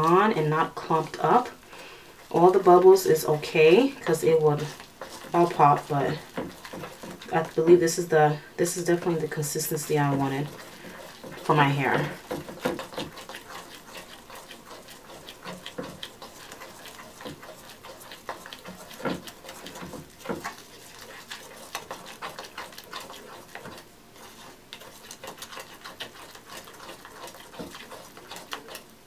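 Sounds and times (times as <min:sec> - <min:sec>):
wet stirring of paste: 0:00.0 - 0:29.0.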